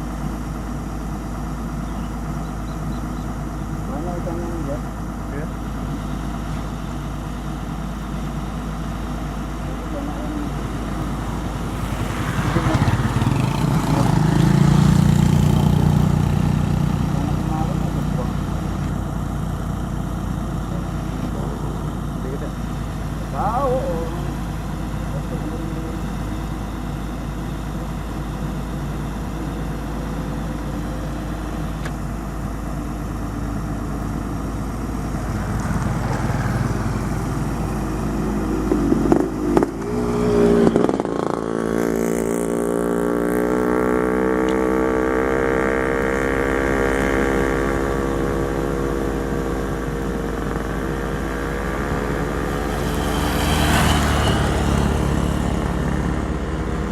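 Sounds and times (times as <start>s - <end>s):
excavator diesel engine running: 0.0s - 42.2s, 49.4s - 56.9s.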